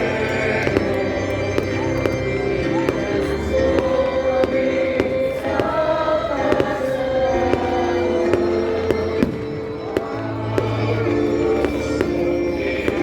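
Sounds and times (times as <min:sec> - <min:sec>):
choir singing with accompaniment: 0:00.0 - 0:13.0
fireworks bangs and pops: 0:00.6 - 0:13.0.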